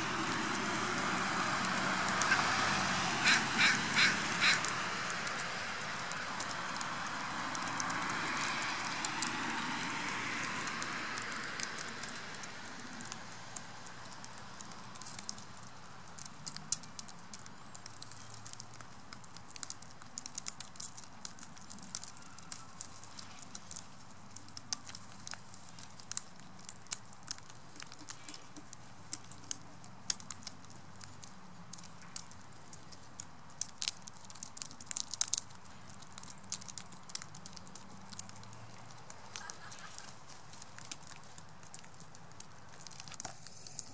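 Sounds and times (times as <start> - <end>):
beaks tapping seeds and stones: 3.2 - 43.9.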